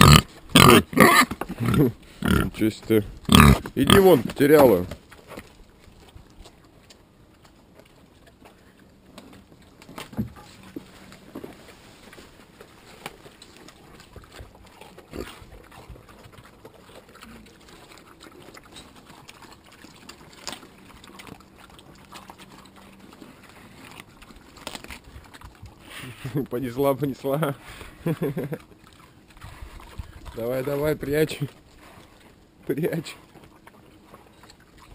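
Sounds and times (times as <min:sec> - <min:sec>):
pigs chewing and smacking: 0:00.0 - 0:34.9
pigs snuffling: 0:00.0 - 0:34.9
watermelon crunching: 0:00.0 - 0:34.9.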